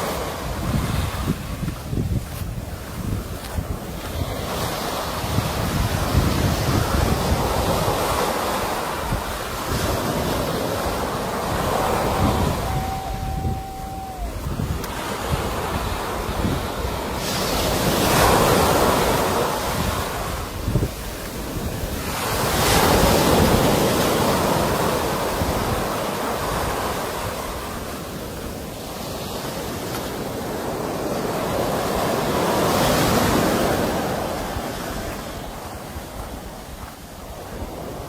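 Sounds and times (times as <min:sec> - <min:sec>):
sea waves breaking on shore: 0:00.0 - 0:38.0.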